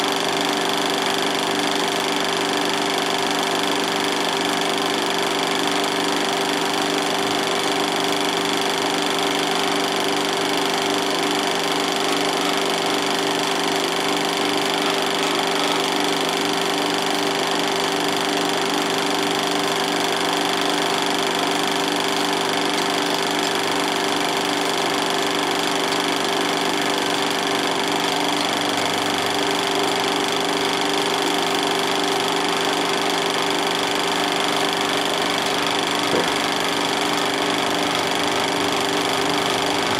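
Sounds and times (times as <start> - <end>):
film projector clatter: 0.0 - 39.9.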